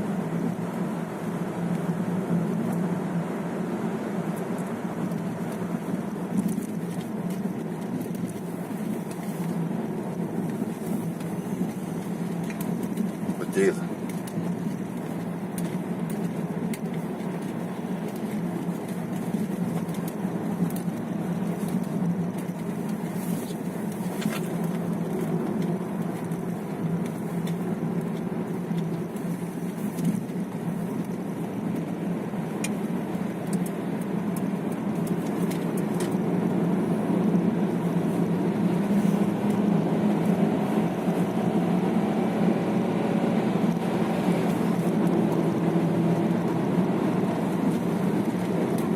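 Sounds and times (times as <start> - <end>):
car engine: 0.0 - 48.9
tyre noise on road: 0.0 - 48.9.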